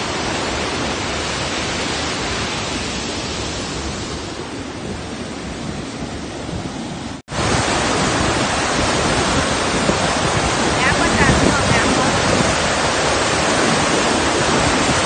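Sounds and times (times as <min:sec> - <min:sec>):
waterfall rushing over rocks: 0:00.0 - 0:05.4, 0:06.8 - 0:15.0.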